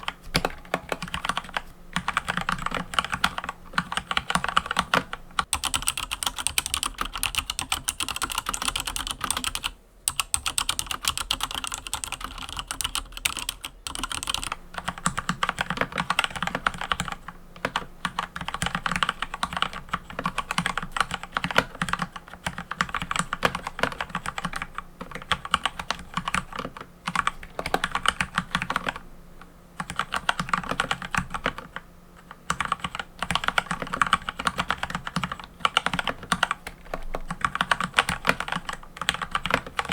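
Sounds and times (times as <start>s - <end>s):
mechanical keyboard typing: 0.0s - 29.0s, 29.8s - 39.9s.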